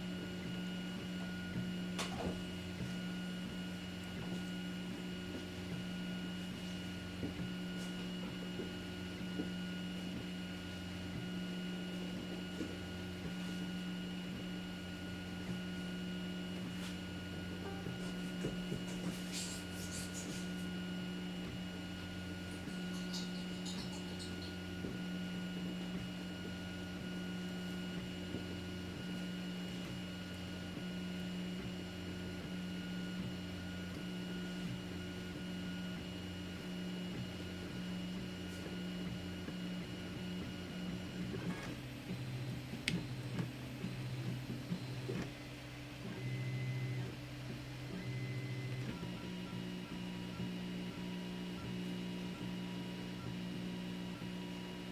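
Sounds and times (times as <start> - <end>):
printer mechanical hum: 0.0 - 54.9.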